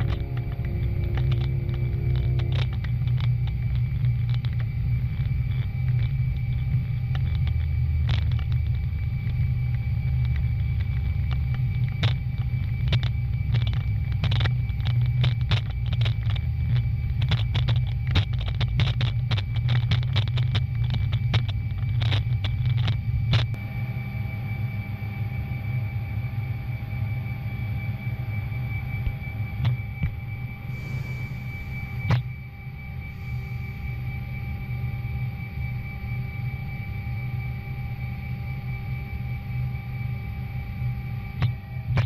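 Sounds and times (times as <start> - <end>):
jet engine rumble and whine: 0.0 - 42.0.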